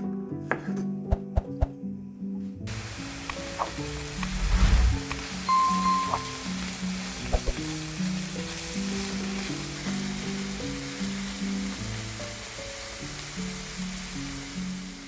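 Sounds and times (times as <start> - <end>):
soft background music: 0.0 - 15.0
mushrooms and onions sizzling in a pan: 2.7 - 15.0.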